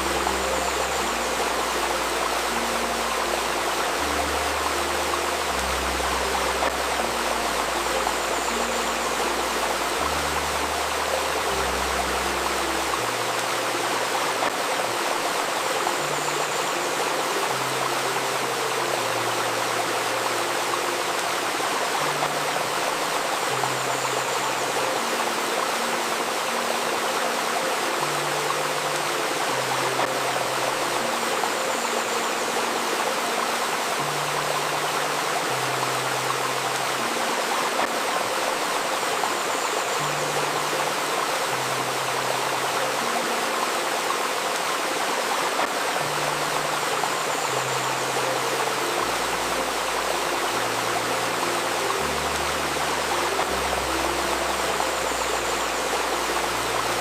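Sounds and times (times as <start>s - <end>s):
river stream flowing: 0.0s - 57.0s
soft low music notes: 0.0s - 57.0s.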